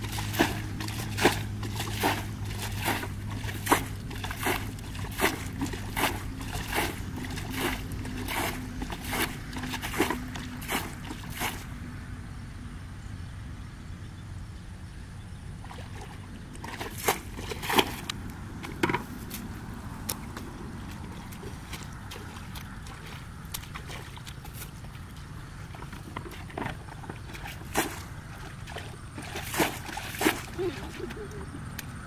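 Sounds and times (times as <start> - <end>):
bucket splashing muddy water: 0.0 - 11.7, 15.6 - 19.4, 20.0 - 31.5.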